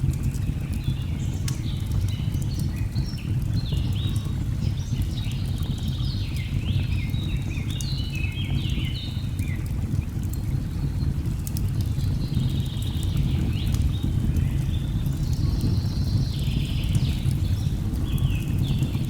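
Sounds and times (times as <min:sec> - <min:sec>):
log fire crackling: 0:00.0 - 0:06.8, 0:07.7 - 0:19.0.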